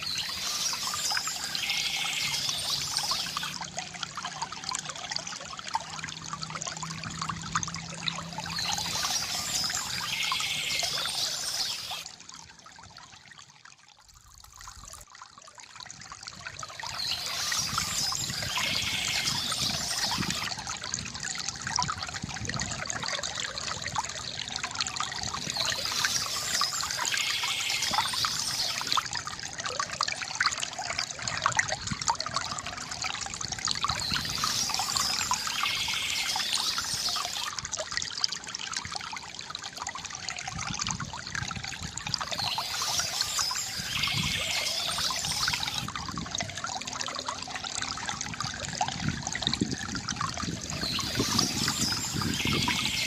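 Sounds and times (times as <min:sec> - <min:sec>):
water trickling from bamboo fountain: 0:00.0 - 0:53.0.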